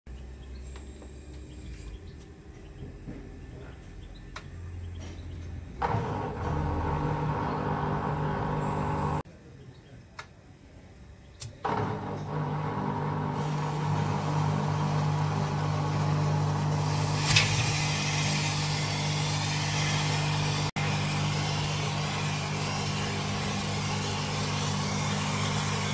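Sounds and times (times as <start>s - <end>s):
washing machine humming: 0.1s - 9.2s, 11.6s - 25.9s.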